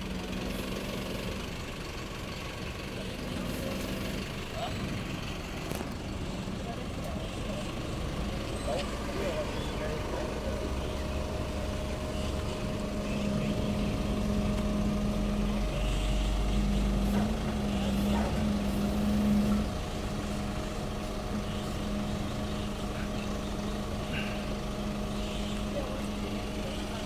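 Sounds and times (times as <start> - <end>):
truck diesel engine droning: 0.0 - 27.0.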